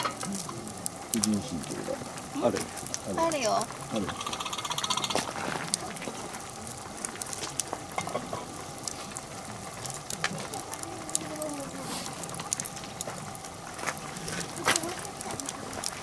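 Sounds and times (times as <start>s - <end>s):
campfire crackling and hissing: 0.0s - 16.0s.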